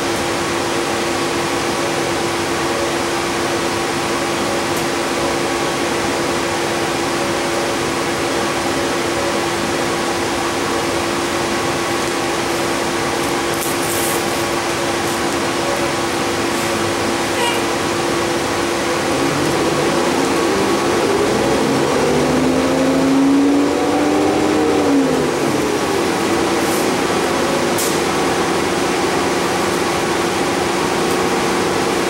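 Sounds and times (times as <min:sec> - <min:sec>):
bus engine and ventilation hum: 0:00.0 - 0:23.0, 0:23.6 - 0:32.0.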